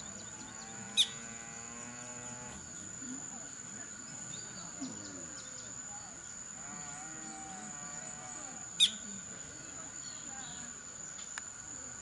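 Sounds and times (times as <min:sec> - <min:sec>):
faint distant voices: 0:00.0 - 0:12.0
high-pitched insect trill: 0:00.0 - 0:12.0.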